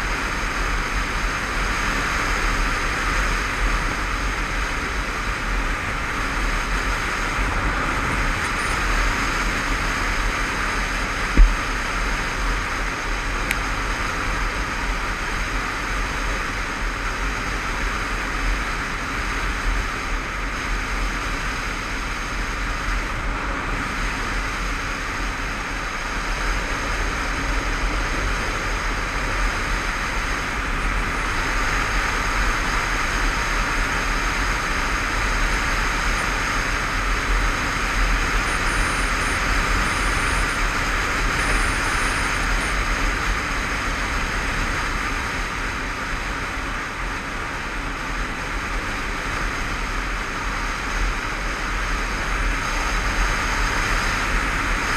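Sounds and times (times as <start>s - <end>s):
motorcycle road noise: 0.0s - 54.9s.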